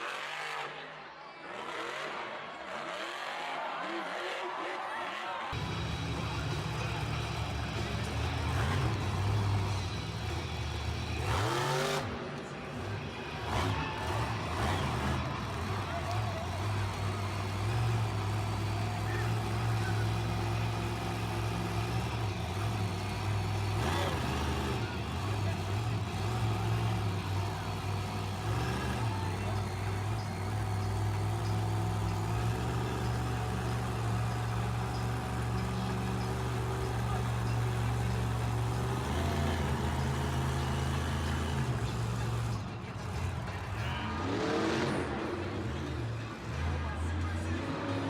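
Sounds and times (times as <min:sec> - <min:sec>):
truck engine droning: 0:05.5 - 0:48.0.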